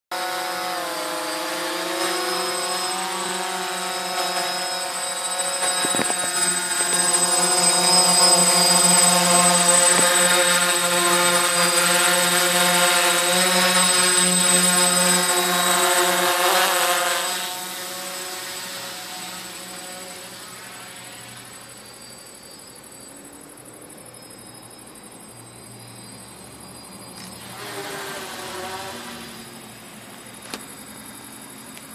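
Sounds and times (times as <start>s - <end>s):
drone motors buzzing: 0.1s - 31.9s.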